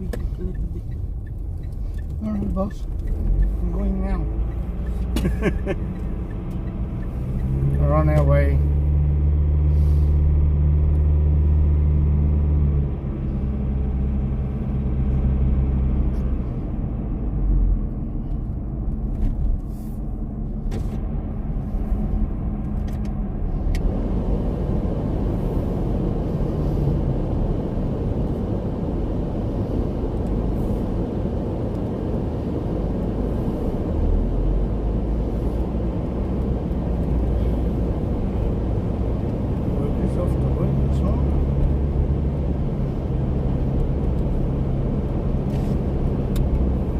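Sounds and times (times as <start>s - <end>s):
car engine hum: 0.0s - 46.9s.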